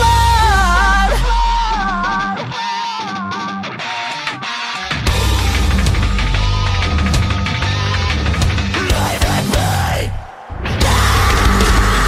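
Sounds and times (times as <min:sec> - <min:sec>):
heavy rock music: 0:00.0 - 0:12.0.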